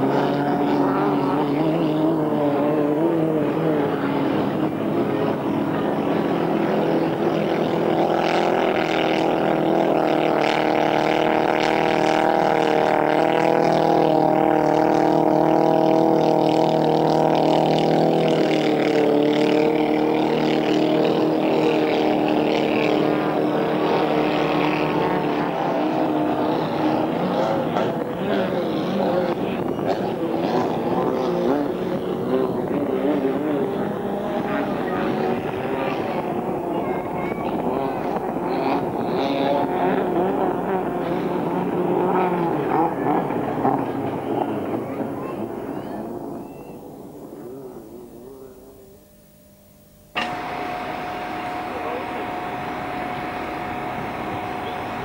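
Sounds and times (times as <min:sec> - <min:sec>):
racing boat engine running hard: 0:00.0 - 0:55.0.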